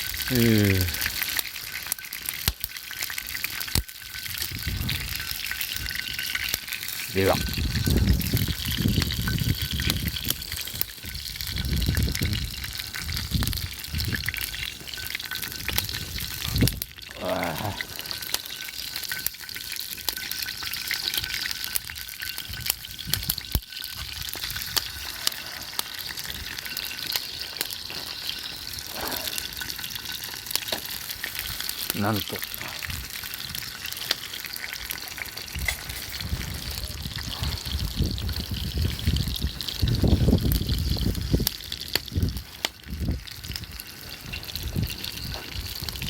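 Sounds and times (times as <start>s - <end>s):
crackles and pops: 0.0s - 46.0s
meat sizzling over campfire: 0.0s - 46.0s.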